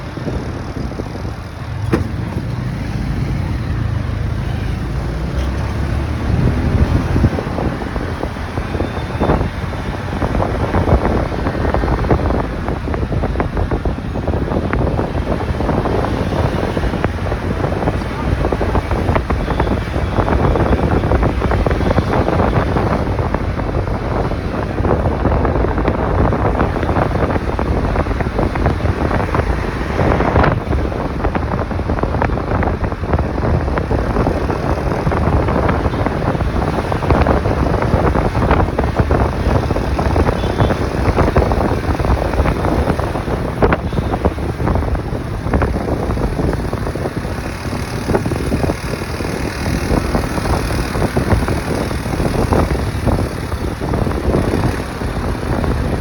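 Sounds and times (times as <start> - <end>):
road noise: 0.0 - 56.0
wind rushing over microphone: 0.0 - 56.0.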